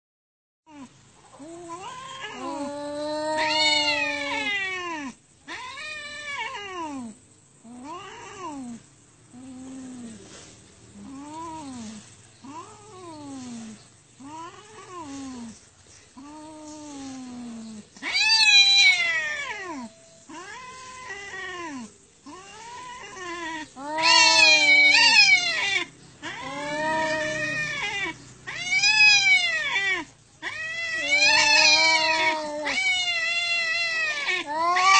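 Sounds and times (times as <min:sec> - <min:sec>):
cats yowling: 0:00.7 - 0:10.3, 0:11.0 - 0:15.6, 0:16.2 - 0:34.9.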